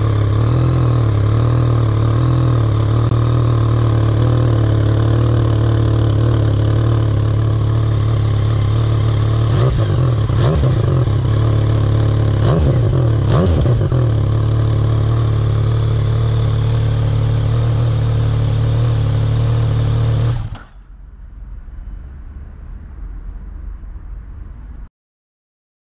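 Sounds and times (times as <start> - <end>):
motorcycle engine idling: 0.0 - 20.9
motorcycle engine revving: 0.0 - 20.9.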